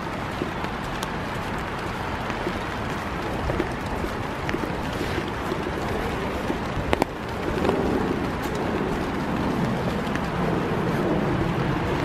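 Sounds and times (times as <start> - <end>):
rain falling in forest: 0.0 - 12.0
wind buffeting microphone: 0.0 - 12.0.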